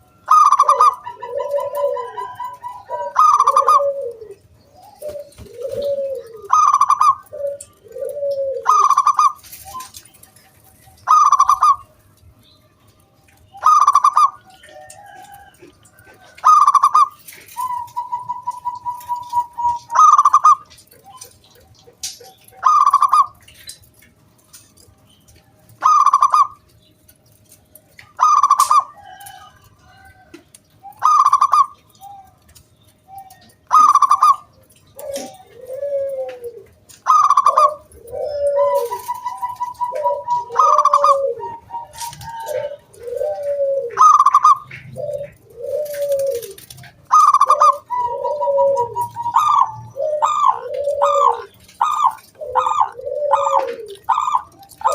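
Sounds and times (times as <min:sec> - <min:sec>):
dove cooing: 0:00.0 - 0:12.4, 0:13.2 - 0:54.9.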